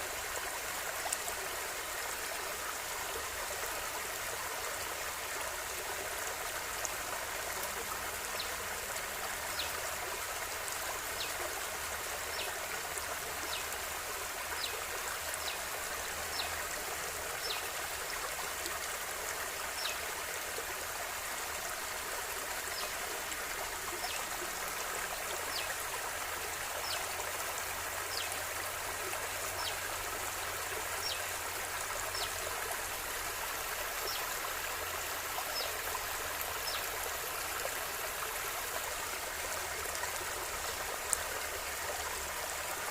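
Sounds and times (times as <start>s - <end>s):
river water flowing: 0.0s - 42.9s.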